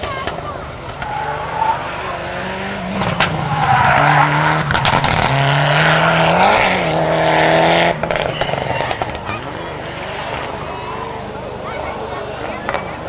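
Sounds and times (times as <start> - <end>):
rally car engine under load: 0.0 - 13.0.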